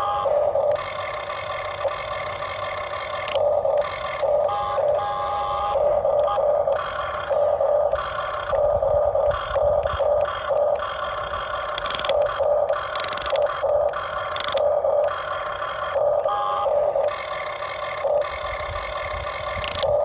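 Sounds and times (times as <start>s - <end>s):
electric motors whining in pulses: 0.0s - 20.0s.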